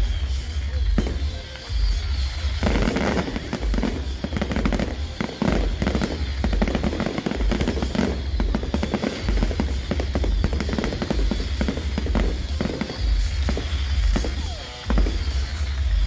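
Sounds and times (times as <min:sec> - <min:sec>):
fireworks cracking and banging: 0:00.0 - 0:16.0
music with heavy bass beat: 0:00.0 - 0:16.0.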